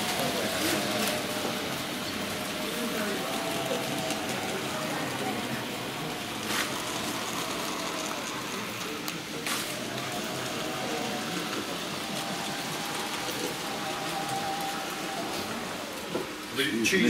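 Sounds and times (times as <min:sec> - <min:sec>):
exhibition hall background noise: 0:00.0 - 0:17.0
faint distant voices: 0:00.0 - 0:17.0.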